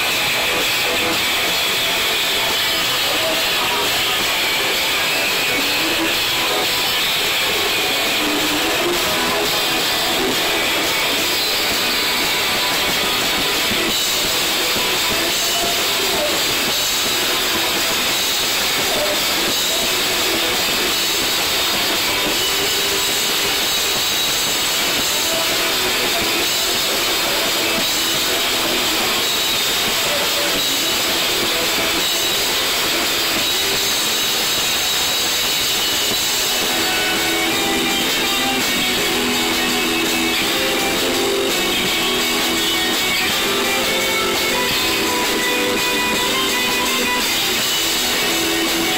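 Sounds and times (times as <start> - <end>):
guitar notes: 0.0 - 48.9
live rock band distorted noise: 0.0 - 48.9.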